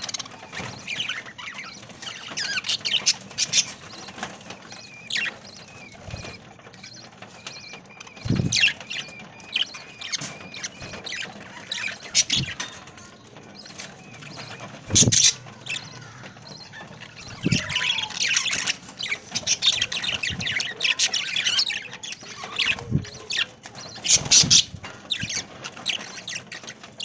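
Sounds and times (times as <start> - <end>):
budgerigars chirping: 0.0 - 27.0.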